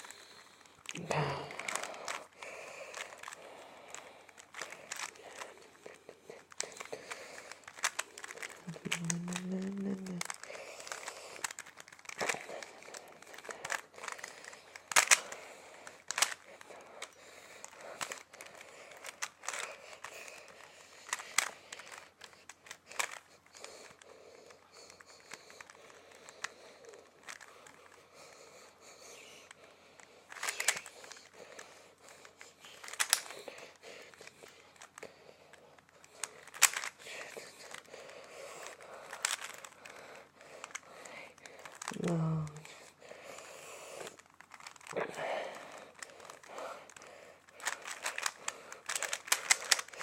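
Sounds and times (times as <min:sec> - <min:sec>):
puzzle cube clicking and rattling: 0:00.0 - 0:50.0.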